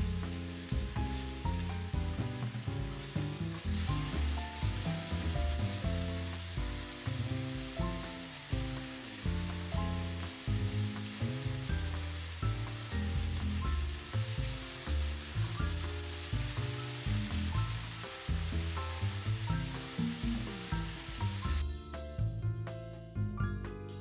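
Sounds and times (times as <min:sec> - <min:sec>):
vegetables sizzling in a frying pan: 0:00.0 - 0:21.6
background music with bass line: 0:00.0 - 0:24.0.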